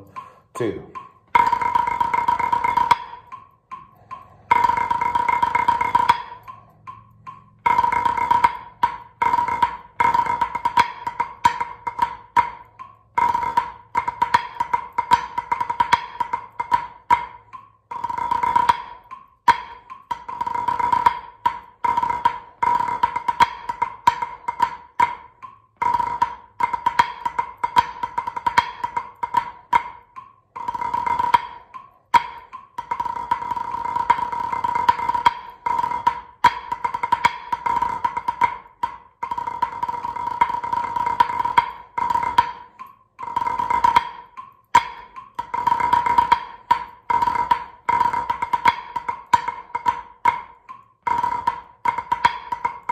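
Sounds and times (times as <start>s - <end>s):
drumsticks on practice pad: 0.0s - 52.9s.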